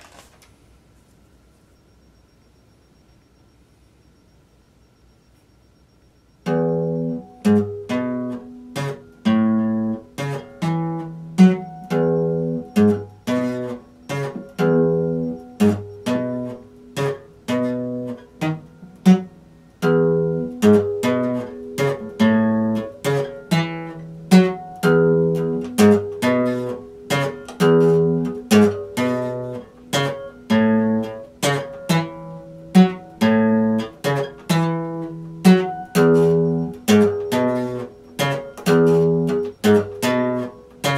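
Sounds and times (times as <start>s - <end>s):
acoustic guitar chords: 6.4s - 40.9s.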